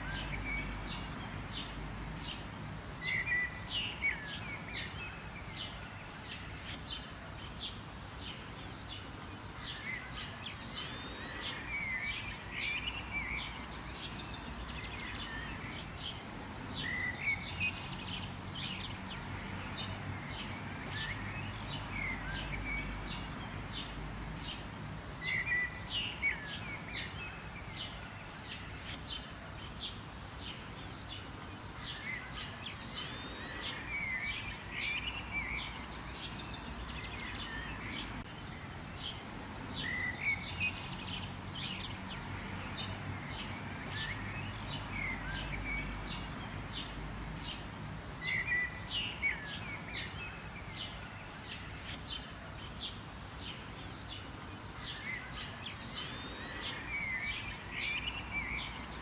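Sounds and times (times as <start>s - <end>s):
birds chirping and calling: 0.0s - 59.0s
steady outdoor hiss: 0.0s - 59.0s.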